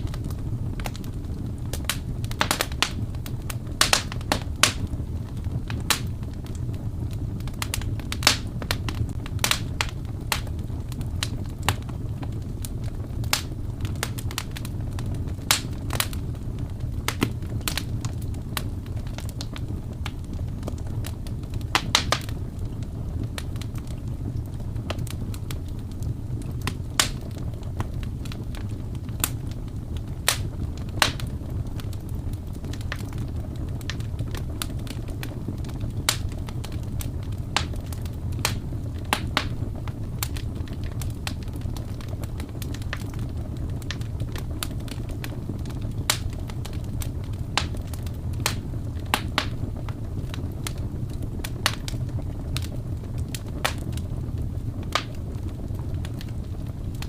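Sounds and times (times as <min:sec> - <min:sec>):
low fire rumble: 0:00.0 - 0:57.0
wood fire crackling and popping: 0:00.0 - 0:57.0.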